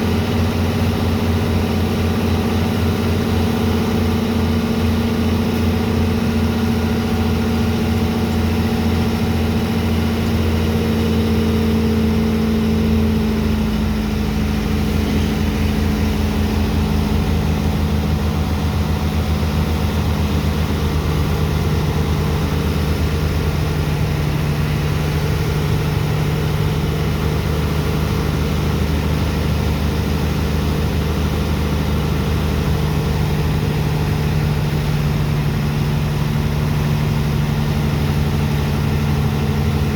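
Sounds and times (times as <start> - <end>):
heavy pump engine running: 0.0 - 39.9.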